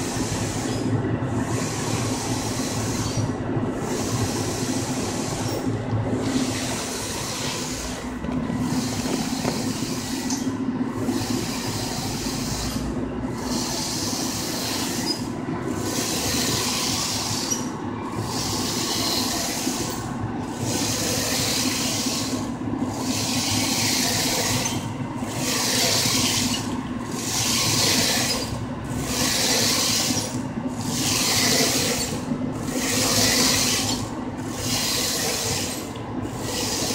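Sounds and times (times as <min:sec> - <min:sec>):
printer carriage sweeping hiss: 0:00.0 - 0:36.9
steady machine hum: 0:00.0 - 0:36.9.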